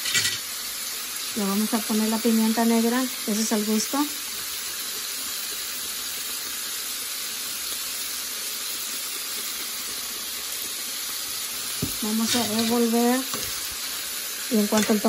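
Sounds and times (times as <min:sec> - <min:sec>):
shrimp sizzling in a frying pan: 0:00.0 - 0:15.0.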